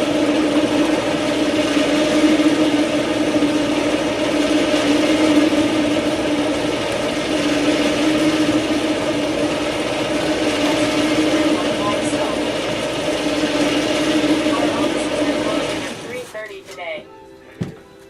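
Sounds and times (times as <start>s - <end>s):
steady mechanical drone: 0.0s - 18.0s.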